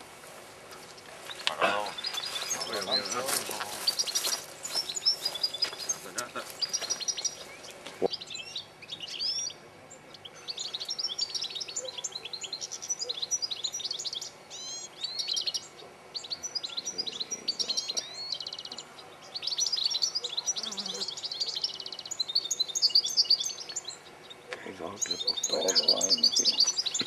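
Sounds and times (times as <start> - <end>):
goldfinches twittering and singing: 0.7 - 27.0.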